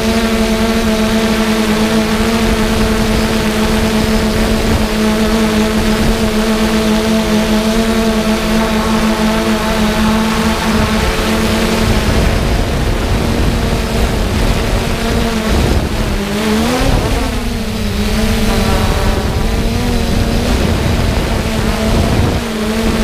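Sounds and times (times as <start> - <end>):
drone propellers humming: 0.0 - 23.0
wind noise: 0.0 - 23.0.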